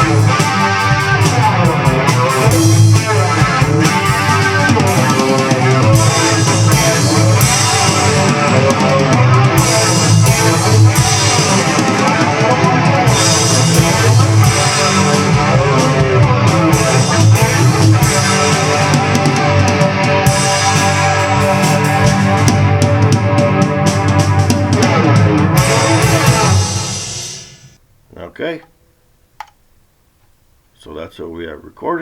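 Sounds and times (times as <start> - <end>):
bass guitar: 0.0 - 27.8
strummed electric guitars: 0.0 - 27.8
drums: 0.0 - 31.2.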